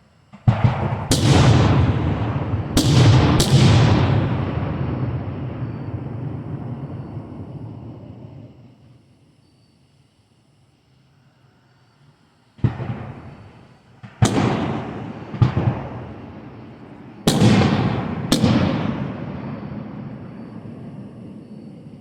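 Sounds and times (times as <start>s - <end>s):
fireworks booming with rolling rumble: 0.0s - 8.9s, 12.6s - 22.0s.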